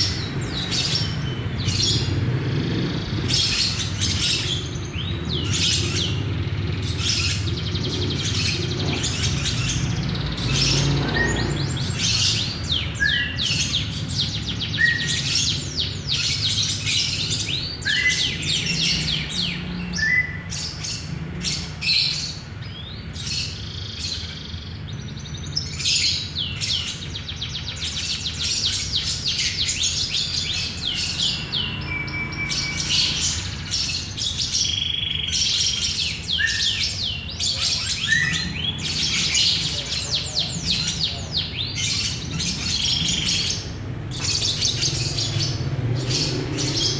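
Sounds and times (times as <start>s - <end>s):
bird chattering high chirps: 0.0s - 46.9s.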